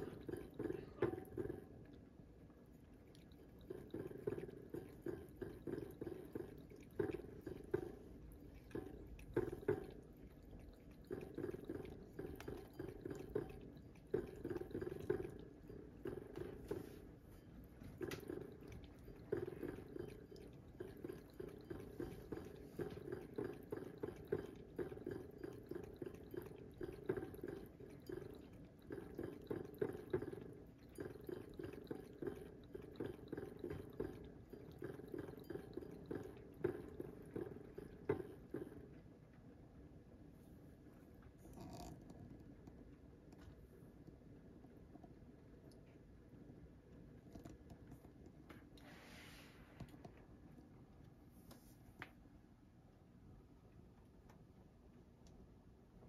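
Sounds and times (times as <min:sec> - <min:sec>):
cat lapping water: 0:00.0 - 0:39.5, 0:41.3 - 0:51.8.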